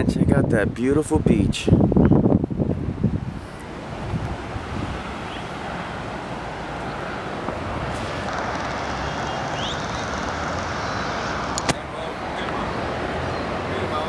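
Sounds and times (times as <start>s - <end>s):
steady rushing outdoor noise: 0.0s - 14.0s.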